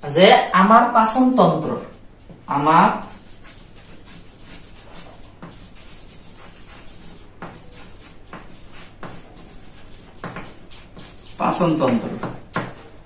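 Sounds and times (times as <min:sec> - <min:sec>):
chalk tapping: 0:02.3 - 0:12.9
chalk scratching on blackboard: 0:02.4 - 0:12.9.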